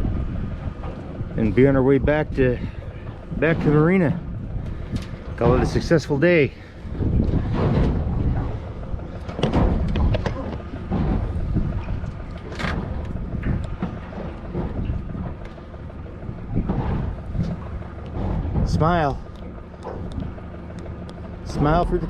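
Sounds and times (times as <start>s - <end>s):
boat gear knocking and clattering: 0.0s - 22.0s
wind buffeting microphone: 0.0s - 22.0s.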